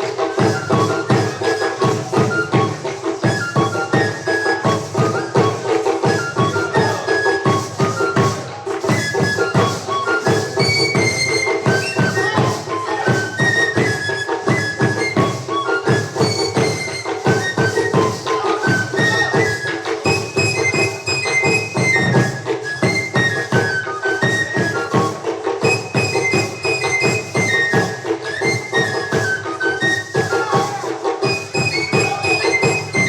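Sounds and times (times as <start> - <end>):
fast steady drumbeat: 0.0 - 33.0
high flute melody: 0.0 - 33.0.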